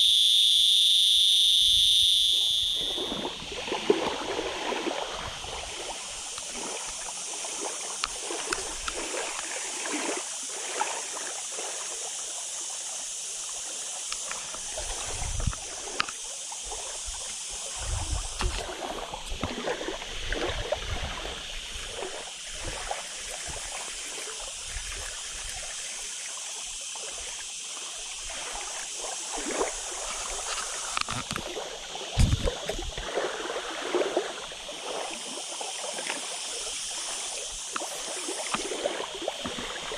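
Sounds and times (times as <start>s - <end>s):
small waves lapping at shore: 2.0s - 39.9s.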